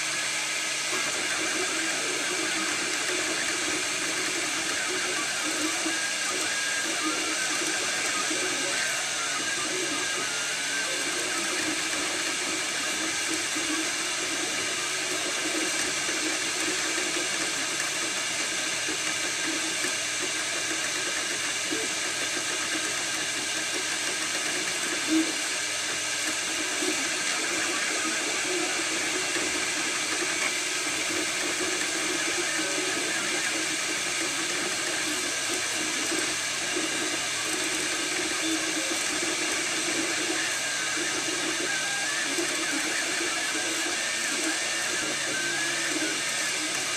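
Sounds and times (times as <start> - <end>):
cooling fan whirring: 0.0 - 46.9
stepper motors buzzing and whining: 0.0 - 46.9.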